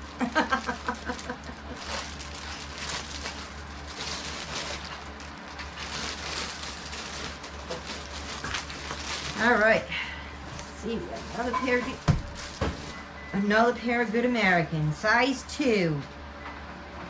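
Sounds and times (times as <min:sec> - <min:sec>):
plastic bags and clothing rustling: 0:00.0 - 0:14.1.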